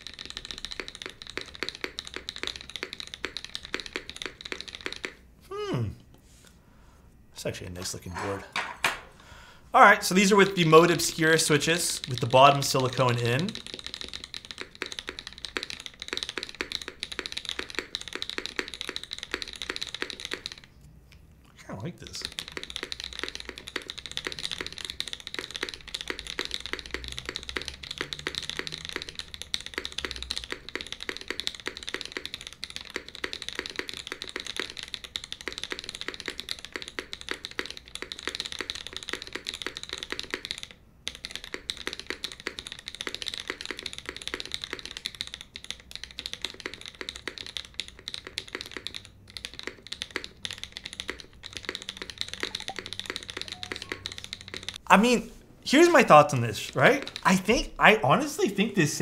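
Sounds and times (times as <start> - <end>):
mechanical keyboard typing: 0.0 - 5.2, 9.8 - 20.7, 22.0 - 59.0.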